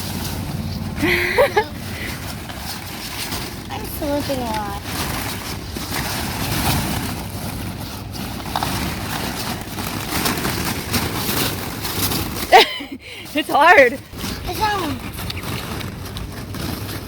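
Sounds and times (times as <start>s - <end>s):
plastic balls rustling and clattering: 0.0s - 17.0s.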